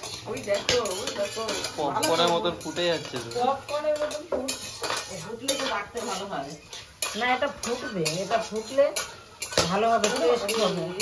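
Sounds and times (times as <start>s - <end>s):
seeds popping in a metal pan: 0.0s - 11.0s
woman talking: 0.2s - 2.1s, 3.4s - 9.0s, 9.6s - 11.0s.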